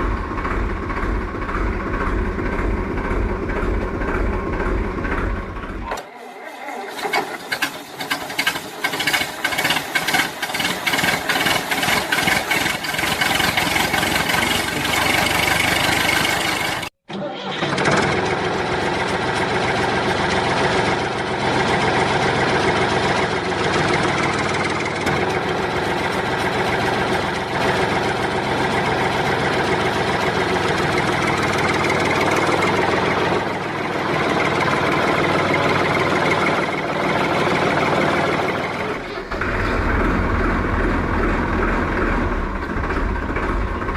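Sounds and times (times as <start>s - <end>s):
engine running with fast ticking: 0.0s - 6.1s, 6.9s - 17.0s, 17.6s - 43.9s.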